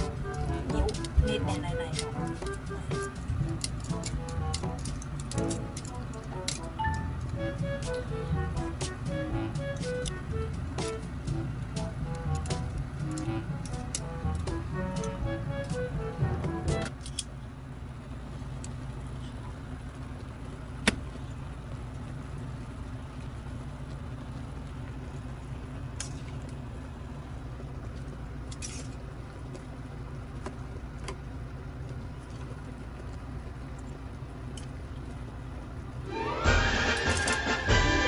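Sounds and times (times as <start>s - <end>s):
stove rumble and hum: 0.0s - 38.0s.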